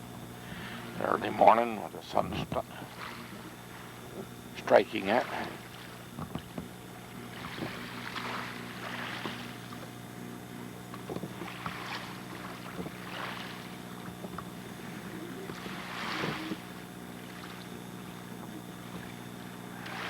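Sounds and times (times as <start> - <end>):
steady low hum: 0.0 - 20.0
small waves washing on shore: 0.4 - 10.0, 11.0 - 20.0.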